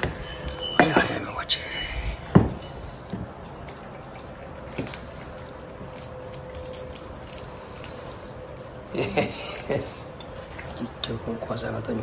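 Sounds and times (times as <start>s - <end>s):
cats eating from bowls: 0.0s - 12.0s
faint steady hum: 0.0s - 12.0s.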